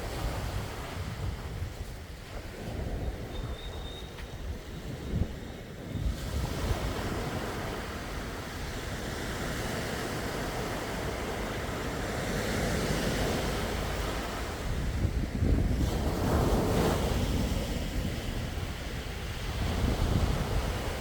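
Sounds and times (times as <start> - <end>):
sea waves washing onto shore: 4.1 - 21.0.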